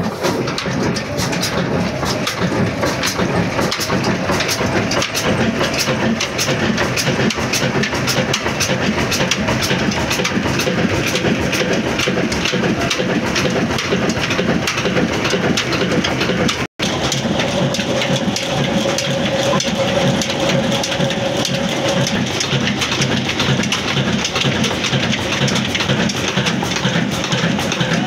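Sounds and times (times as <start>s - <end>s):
diesel engine clattering: 0.0s - 28.0s.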